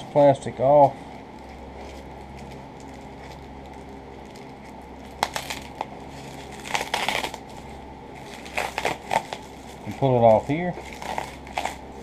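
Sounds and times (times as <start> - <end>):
steady low hum: 0.0 - 12.0
plastic strip crinkling: 1.4 - 11.9.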